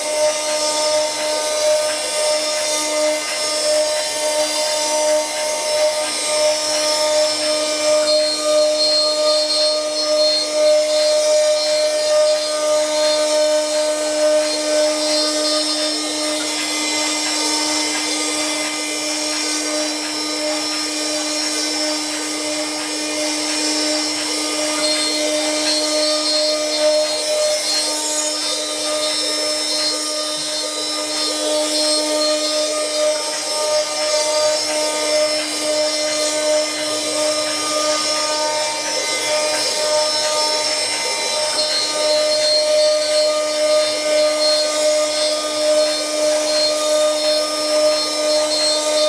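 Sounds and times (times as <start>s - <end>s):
cutter hissing through wood: 0.0s - 49.0s
machine spindle motor whine: 0.0s - 49.0s.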